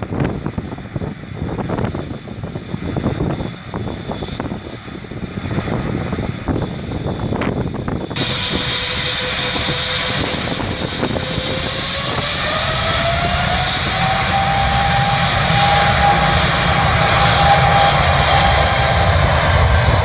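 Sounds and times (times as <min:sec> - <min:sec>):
jet engine rush: 0:00.0 - 0:20.0
jet fan whine rising: 0:00.0 - 0:20.0.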